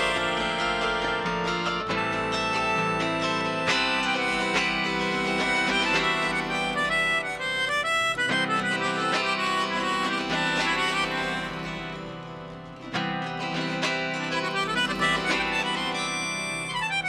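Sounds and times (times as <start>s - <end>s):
melodica sustained notes: 0.0s - 12.5s, 14.2s - 17.0s
strummed autoharp: 0.0s - 17.0s.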